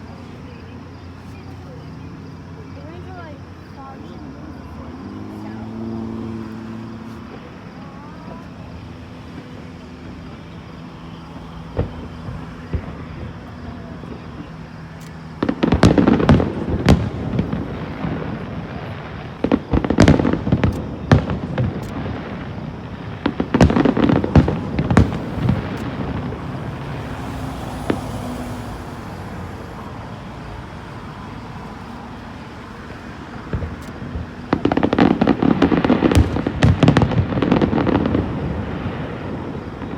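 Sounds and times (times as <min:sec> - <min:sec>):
firework bangs and crackle: 0:00.0 - 0:39.9.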